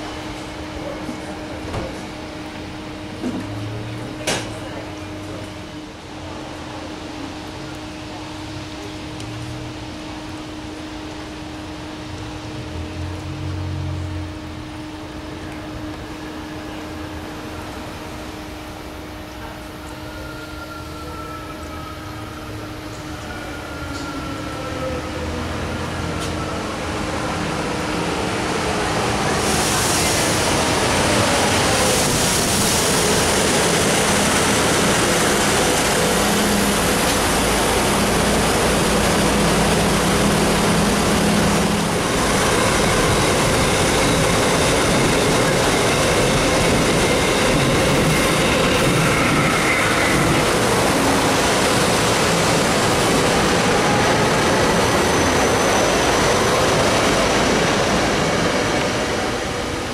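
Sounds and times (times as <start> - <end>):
train rail and wheel noise: 0.0 - 59.9.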